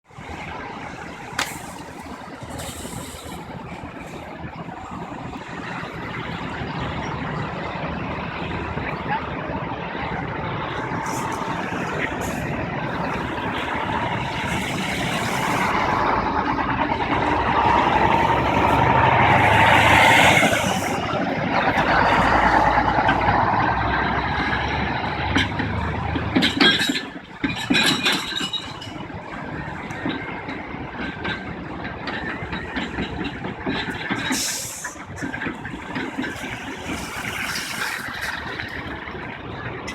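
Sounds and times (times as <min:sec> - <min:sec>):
truck passing: 0:00.1 - 0:39.9.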